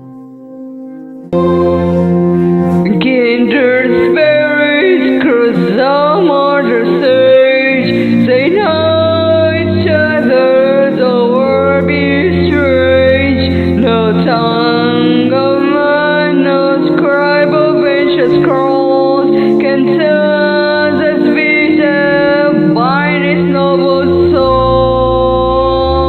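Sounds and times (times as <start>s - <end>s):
sustained low chords: 1.1s - 26.0s
person singing long notes: 1.3s - 26.0s.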